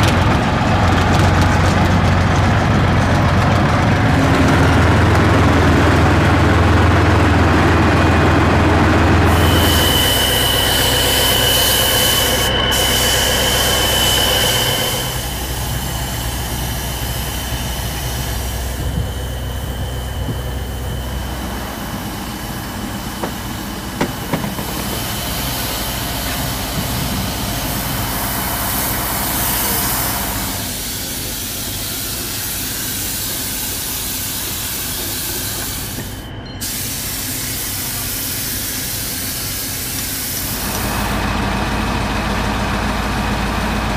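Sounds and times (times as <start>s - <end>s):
engine running: 0.0s - 36.8s, 39.2s - 43.9s.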